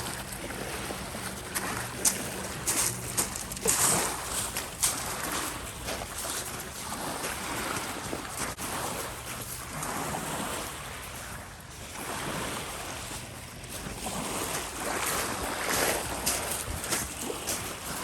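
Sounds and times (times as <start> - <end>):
lake waves washing on shore: 0.0 - 18.0.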